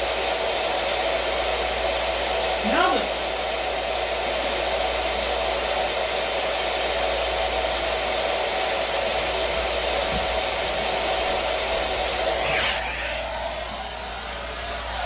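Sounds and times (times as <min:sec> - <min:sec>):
radio static hiss: 0:00.0 - 0:13.9
faint hum: 0:00.0 - 0:15.0.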